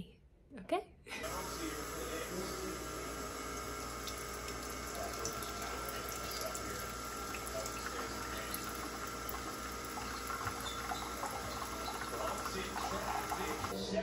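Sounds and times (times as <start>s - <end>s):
water pump humming: 1.1s - 13.8s
coffee pouring into mug: 1.2s - 13.8s.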